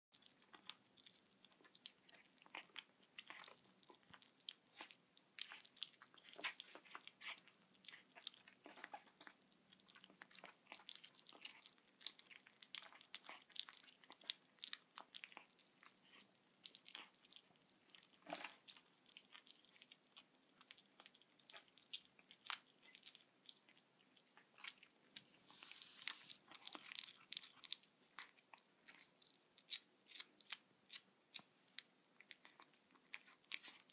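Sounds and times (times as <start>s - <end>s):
kitten chewing wet crunches: 0.1s - 33.9s.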